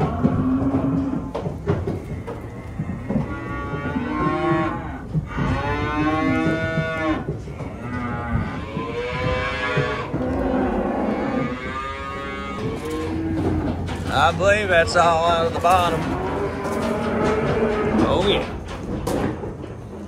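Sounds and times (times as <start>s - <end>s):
cattle mooing: 0.0s - 18.6s.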